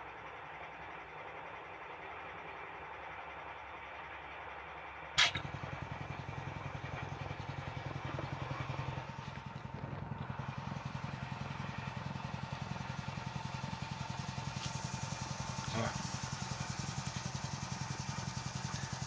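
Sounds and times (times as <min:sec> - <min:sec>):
vacuum pump running: 0:00.0 - 0:19.0.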